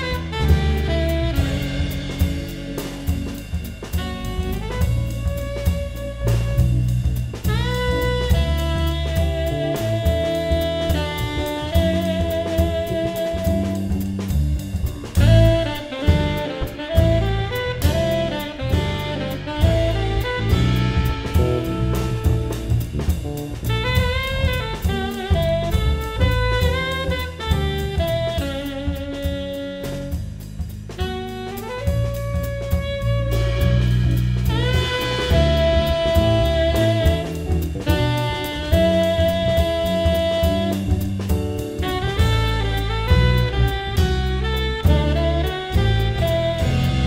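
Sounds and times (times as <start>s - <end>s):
tenor saxophone long notes: 0.0s - 30.4s, 31.0s - 47.0s
drum kit cymbal and drum strokes: 0.0s - 47.0s
electric bass: 0.0s - 47.0s.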